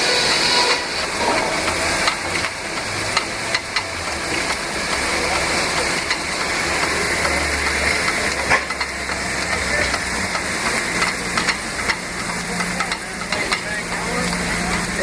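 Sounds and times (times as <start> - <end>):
steam hissing: 0.0 - 15.0.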